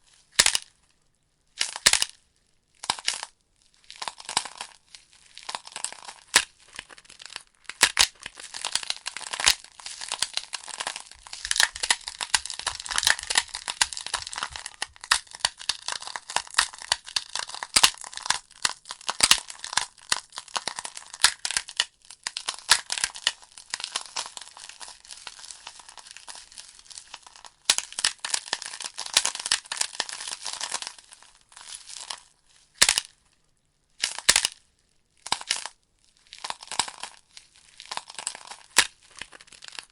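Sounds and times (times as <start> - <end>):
logs crackling and popping: 2.8 - 33.1, 34.0 - 34.6, 35.2 - 39.9.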